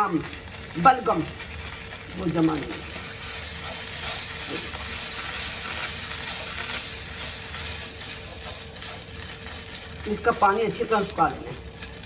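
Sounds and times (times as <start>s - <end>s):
ginger sizzling in a frying pan: 0.0s - 12.0s
spatula stirring: 0.0s - 12.0s.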